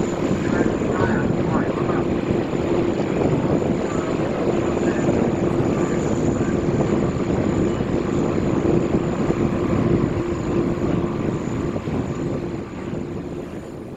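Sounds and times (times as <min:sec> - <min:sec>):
airliner engines roaring: 0:00.0 - 0:13.9.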